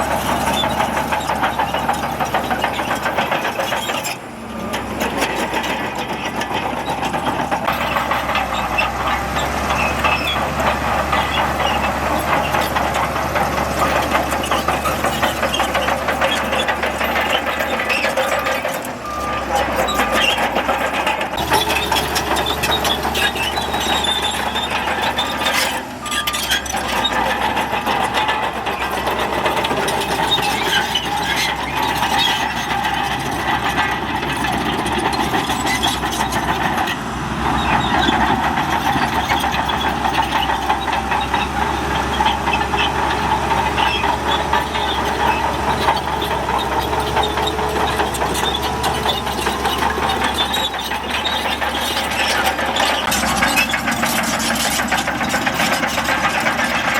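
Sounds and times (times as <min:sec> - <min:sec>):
bulldozer diesel engine under load: 0:00.0 - 0:56.9
metallic clatter of tracks: 0:00.0 - 0:56.9.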